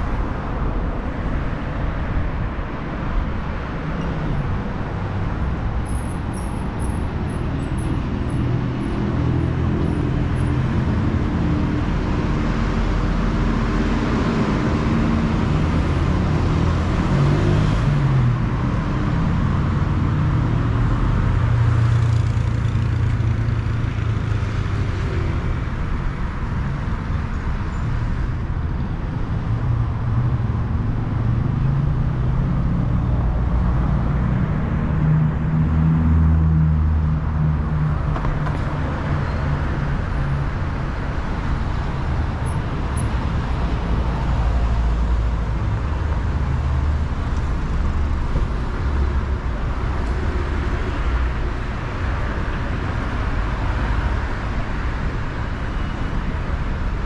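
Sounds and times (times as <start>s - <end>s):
cars passing by: 0.0s - 57.0s.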